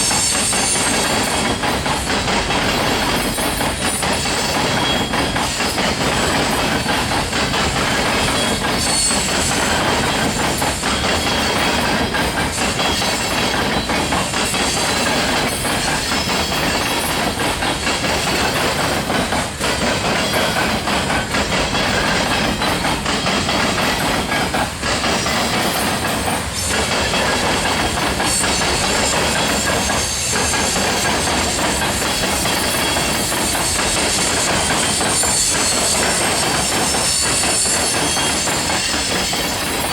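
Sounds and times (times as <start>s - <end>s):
freight train wheels rumbling: 0.0s - 39.9s
wheels clacking over rail joints: 0.0s - 39.9s.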